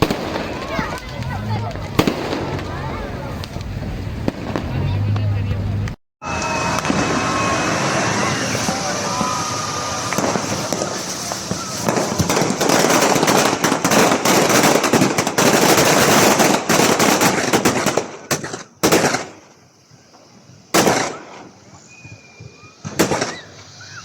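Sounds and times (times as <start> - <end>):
fireworks and firecrackers crackling: 0.0 - 24.0.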